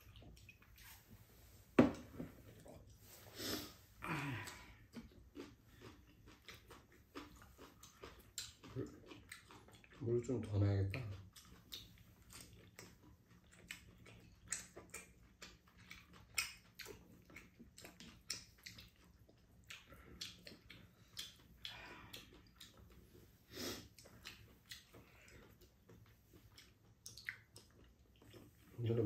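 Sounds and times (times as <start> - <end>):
chewing: 0.0 - 1.3, 2.0 - 29.0.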